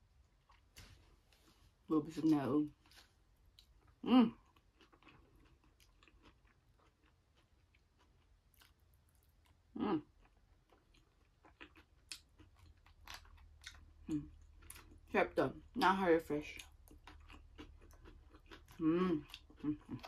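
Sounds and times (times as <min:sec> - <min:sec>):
chewing and mouth sounds: 0:02.8 - 0:20.0.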